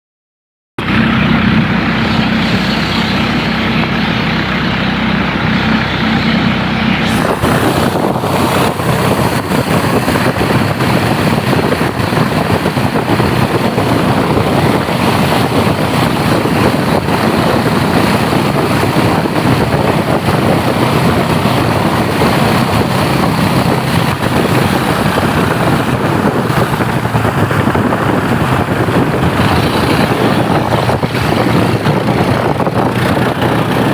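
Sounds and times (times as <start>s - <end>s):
boat motor running: 0.8s - 33.9s
water rushing: 1.3s - 33.9s.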